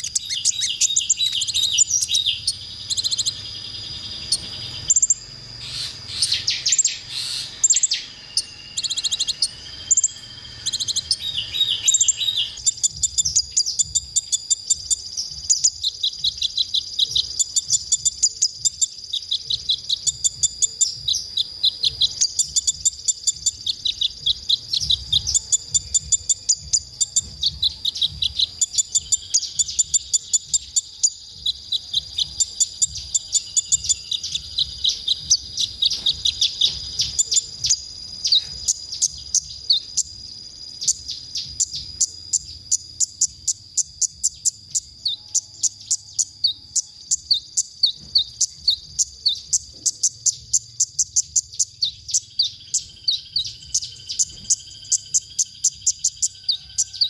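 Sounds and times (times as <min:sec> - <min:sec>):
steady high whine: 0:00.0 - 0:49.6
bird singing chirps and trills: 0:00.0 - 0:57.0.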